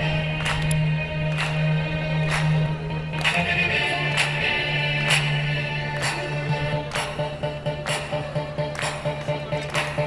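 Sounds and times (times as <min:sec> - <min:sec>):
music with steady beat: 0:00.0 - 0:10.0
pulsing bass line: 0:00.0 - 0:10.0.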